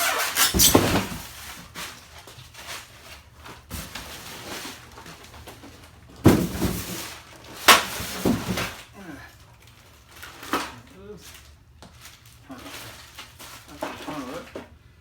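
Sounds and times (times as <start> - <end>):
styrofoam and cardboard rustling: 0.0 - 8.9, 9.7 - 14.7.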